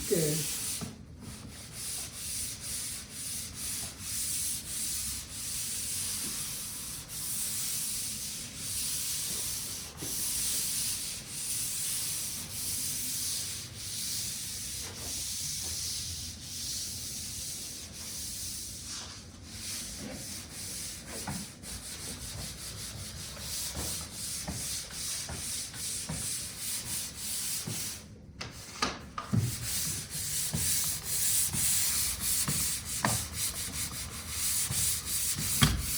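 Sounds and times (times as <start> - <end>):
sandpaper rubbing on a wall: 0.0 - 28.7, 29.4 - 35.9.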